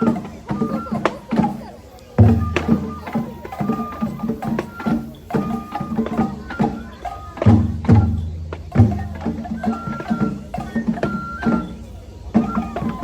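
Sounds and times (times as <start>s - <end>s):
flute high notes: 0.0s - 13.0s.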